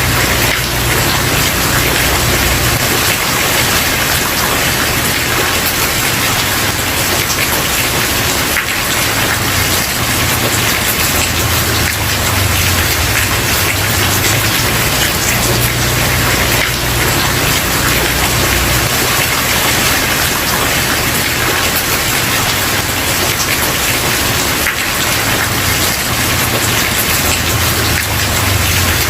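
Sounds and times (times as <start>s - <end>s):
rain on wooden porch: 0.0s - 29.0s.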